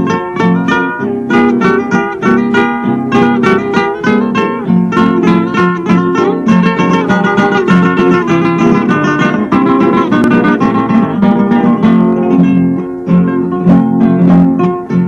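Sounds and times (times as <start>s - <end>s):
plucked acoustic guitars: 0.0s - 15.0s.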